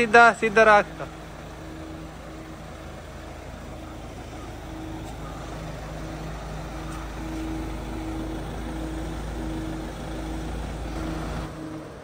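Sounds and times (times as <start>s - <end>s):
car engine humming at low revs: 0.0s - 12.0s.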